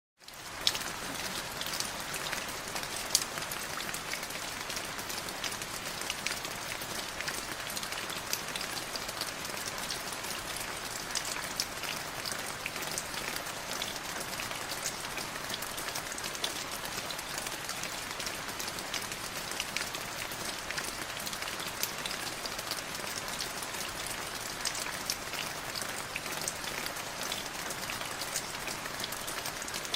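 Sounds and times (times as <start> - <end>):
heavy rain falling: 0.3 - 29.9.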